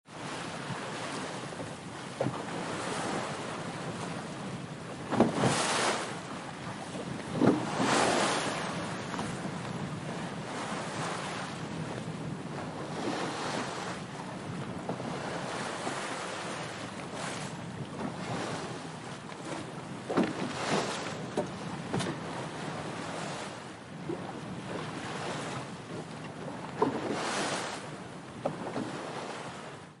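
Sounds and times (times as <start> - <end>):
water splashing against boat hull: 0.1 - 29.8
wind noise on microphone: 0.2 - 29.9.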